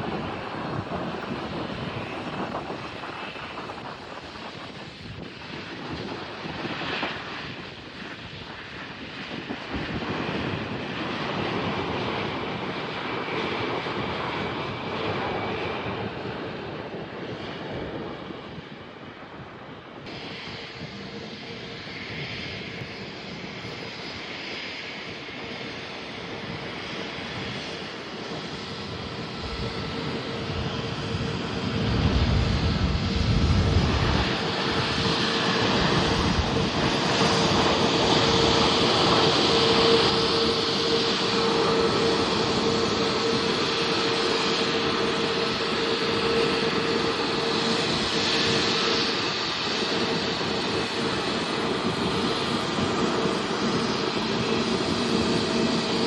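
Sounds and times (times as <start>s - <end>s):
aircraft engines roaring: 0.0s - 56.0s.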